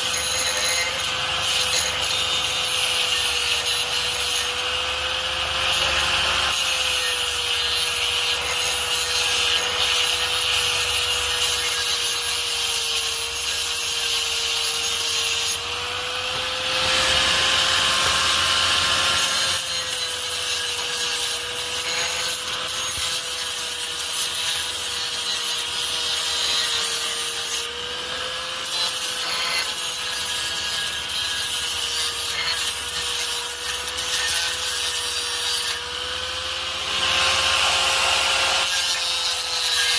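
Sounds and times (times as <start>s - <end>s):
power tool cutting metal pipe: 0.0s - 39.9s.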